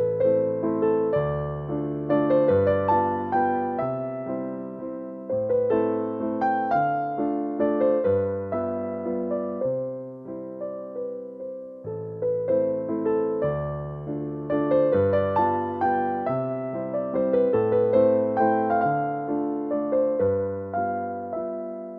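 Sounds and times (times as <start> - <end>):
electric piano melody: 0.0 - 21.9.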